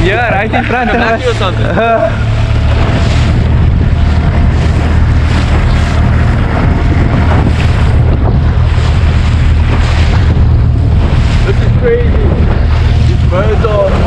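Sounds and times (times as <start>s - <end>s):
choppy sea rushing: 0.0s - 14.0s
outboard motor droning: 0.0s - 14.0s
wind buffeting microphone: 0.0s - 14.0s.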